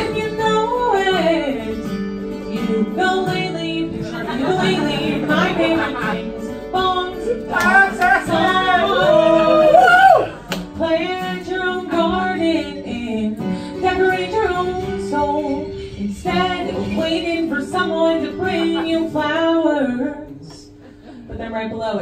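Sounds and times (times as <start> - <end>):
acoustic guitar: 0.0 - 22.0
woman singing: 0.0 - 22.0.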